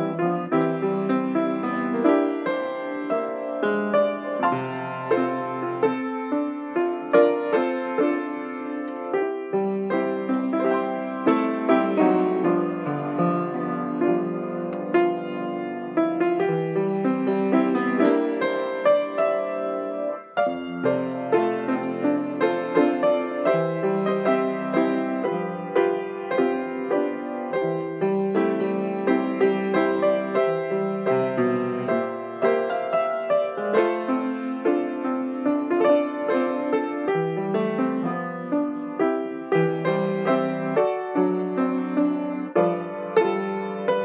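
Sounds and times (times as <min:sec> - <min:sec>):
solo piano music: 0:00.0 - 0:44.0.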